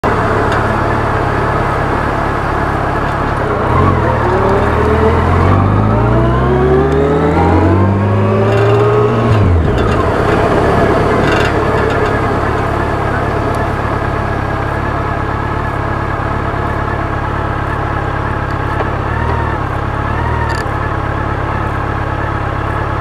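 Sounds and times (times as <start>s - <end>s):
motorcycle engine accelerating: 0.0s - 23.0s
wind and road noise: 0.0s - 23.0s.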